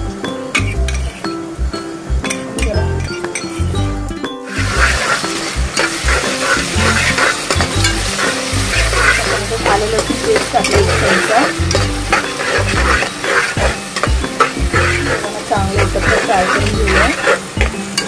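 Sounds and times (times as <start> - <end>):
onions sizzling in hot oil: 0.1 - 18.0
spoon stirring against pan: 0.4 - 1.4, 2.2 - 18.0.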